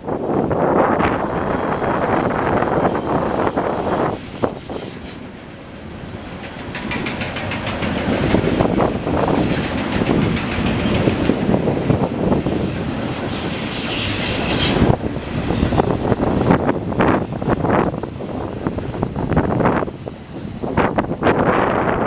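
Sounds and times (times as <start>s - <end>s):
freight train wheels clattering: 1.0s - 21.4s.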